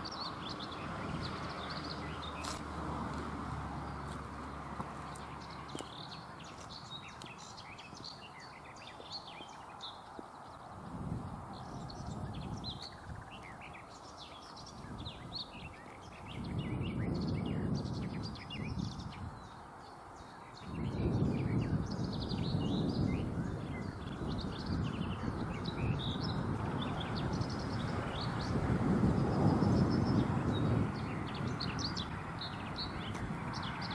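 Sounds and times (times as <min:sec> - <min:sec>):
birds singing and chirping: 0:00.0 - 0:02.7, 0:03.8 - 0:33.9.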